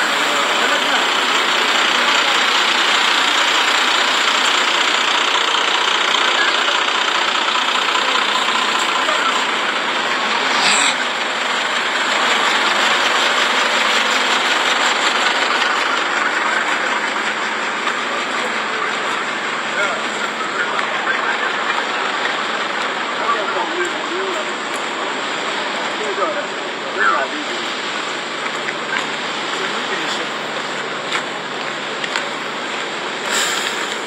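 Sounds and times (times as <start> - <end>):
fire truck engine running: 0.0 - 34.0.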